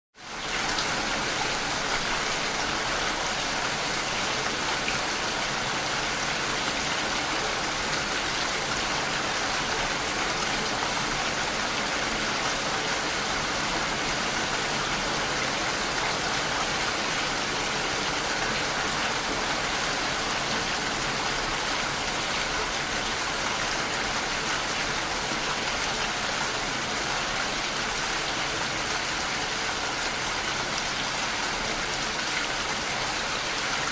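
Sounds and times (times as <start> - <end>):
rain pattering on surfaces: 0.2 - 33.9.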